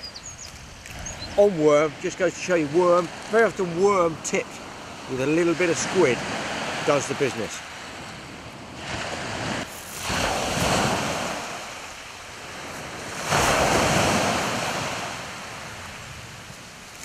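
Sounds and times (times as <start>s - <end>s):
waves breaking on shingle beach: 0.4s - 17.0s.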